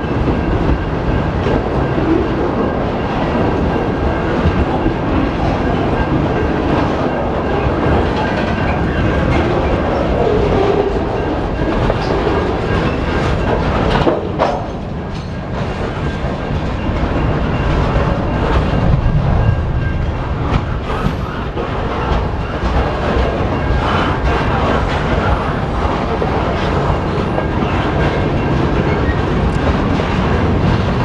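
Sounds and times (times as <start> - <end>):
clickety-clack over rail joints: 0.0 - 31.0
train wheels rumbling on rail: 0.0 - 31.0.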